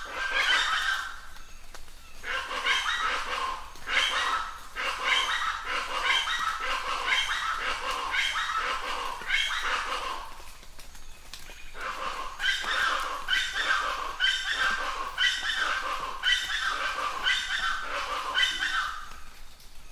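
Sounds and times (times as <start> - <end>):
birds calling: 0.0 - 19.9
rain falling: 0.0 - 19.9.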